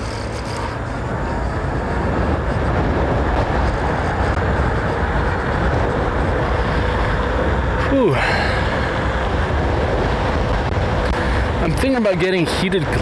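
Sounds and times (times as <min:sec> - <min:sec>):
road noise: 0:00.0 - 0:13.0
wind rush: 0:00.0 - 0:13.0.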